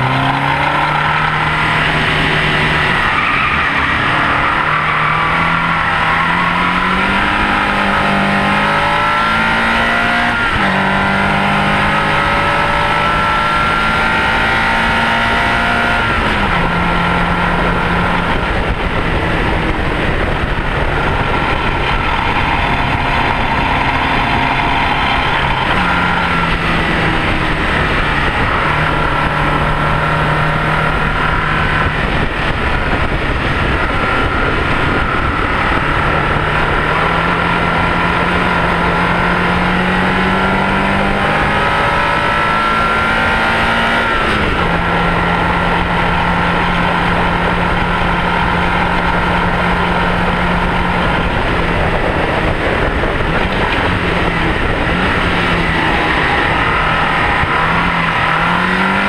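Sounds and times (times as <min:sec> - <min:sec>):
car engine revving: 0:00.0 - 0:59.0
tyre and wind roar: 0:00.0 - 0:59.0.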